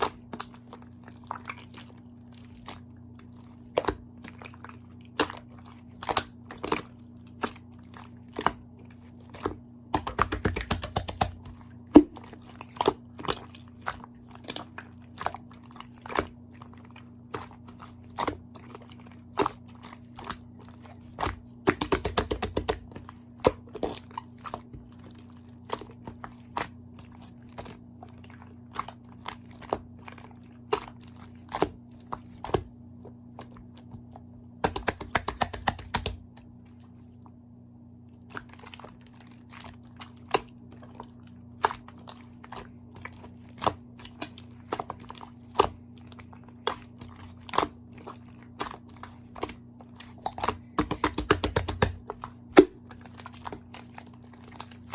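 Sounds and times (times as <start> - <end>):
slime clicking and crunching: 0.0 - 36.8, 38.1 - 54.9.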